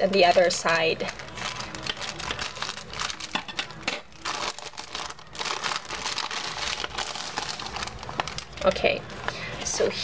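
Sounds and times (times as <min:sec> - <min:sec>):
plastic pouch crinkling: 0:00.0 - 0:09.3.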